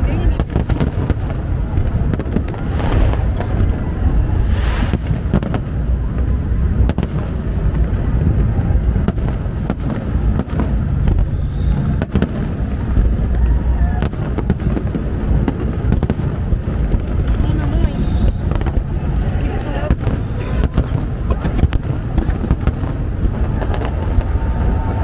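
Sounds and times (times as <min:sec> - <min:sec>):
low rumble of explosions: 0:00.0 - 0:25.0.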